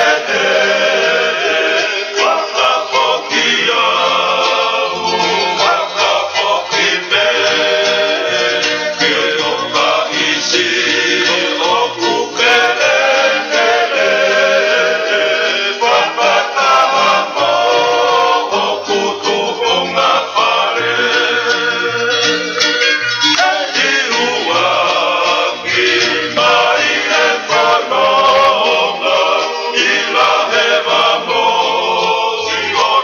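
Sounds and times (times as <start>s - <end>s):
instrumental backing with bass line: 0.0s - 33.0s
voices singing: 0.0s - 33.0s.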